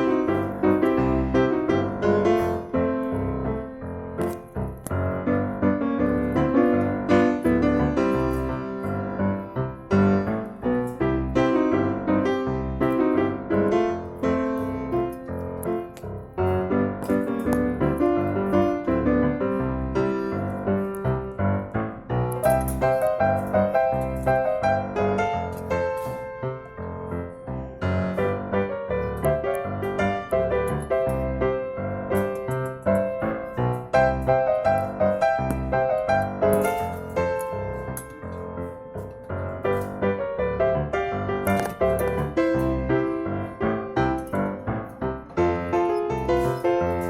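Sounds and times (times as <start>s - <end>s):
piano music: 0.0s - 47.0s.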